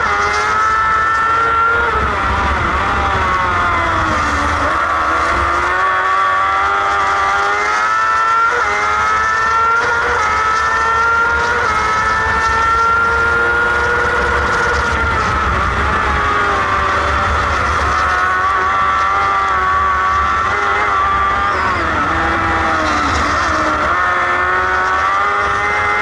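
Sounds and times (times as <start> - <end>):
gear changes: 0.0 - 26.0
motorcycle engine accelerating: 0.0 - 26.0.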